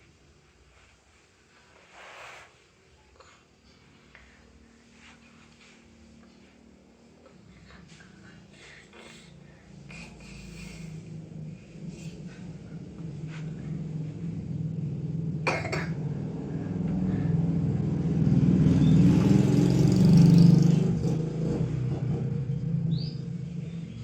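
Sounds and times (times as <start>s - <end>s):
vehicle engine running: 3.9s - 24.0s.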